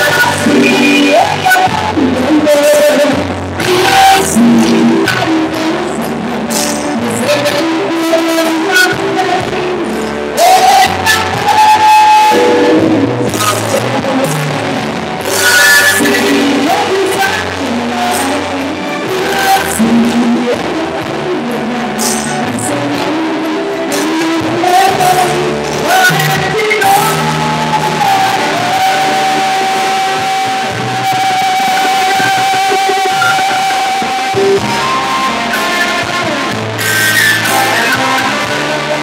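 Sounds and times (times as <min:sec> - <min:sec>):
live rock band: 0:00.0 - 0:39.0
person singing: 0:00.0 - 0:39.0.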